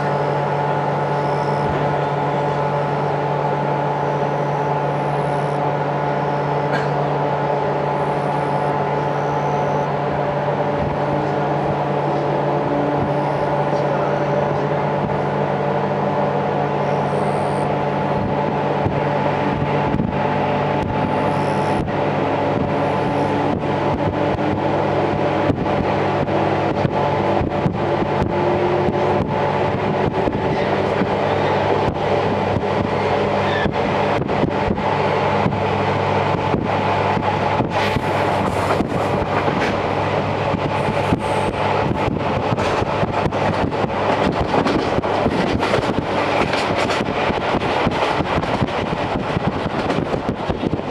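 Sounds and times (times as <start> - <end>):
electric train drone: 0.0 - 50.9.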